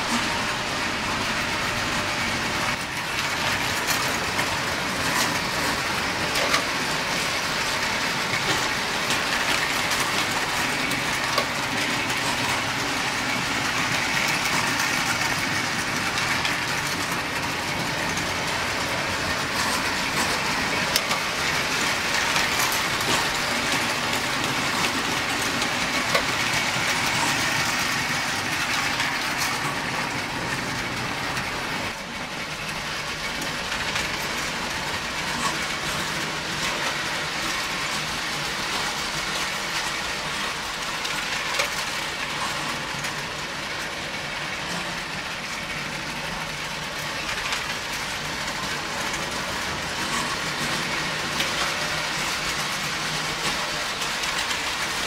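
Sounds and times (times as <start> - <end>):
toy trains running on rails: 0.0 - 55.0.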